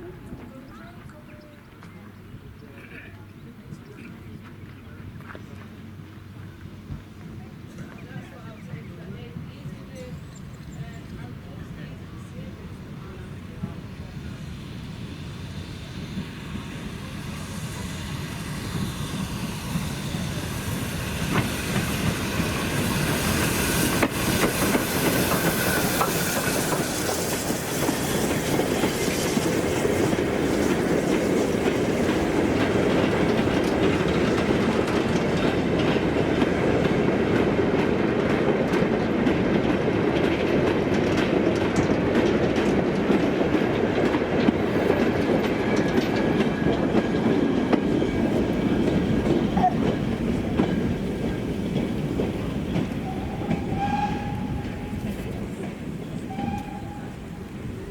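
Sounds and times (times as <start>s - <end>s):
train wheels clattering on track: 3.9s - 57.9s.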